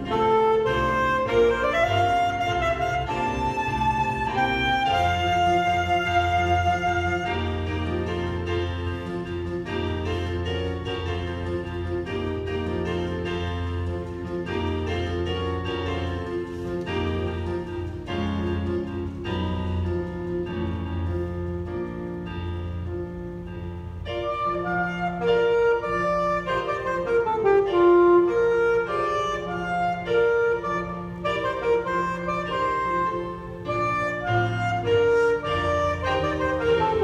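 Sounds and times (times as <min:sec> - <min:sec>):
alto saxophone melody: 0:00.0 - 0:22.2, 0:24.0 - 0:37.0
keyboard chords with bass line: 0:00.0 - 0:37.0.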